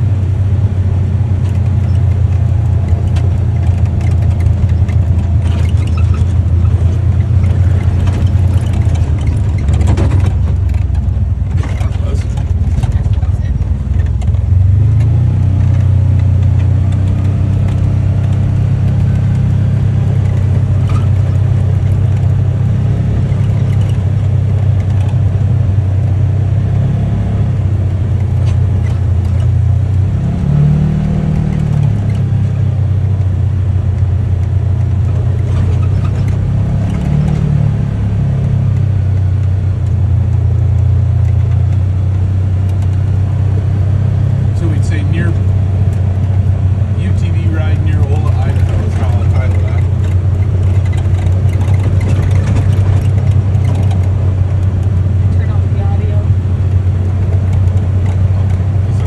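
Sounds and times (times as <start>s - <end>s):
utility vehicle engine droning: 0.0s - 59.0s.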